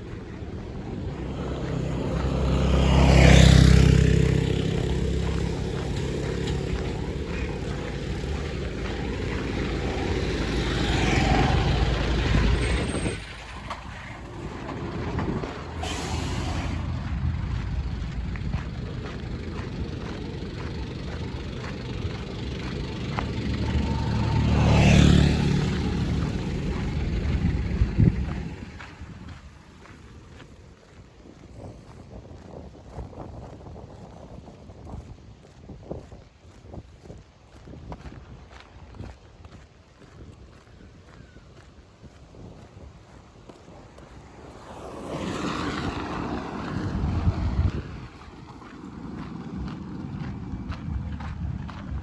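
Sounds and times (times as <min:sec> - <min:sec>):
vehicles driving past: 0:00.0 - 0:35.2, 0:38.5 - 0:52.0.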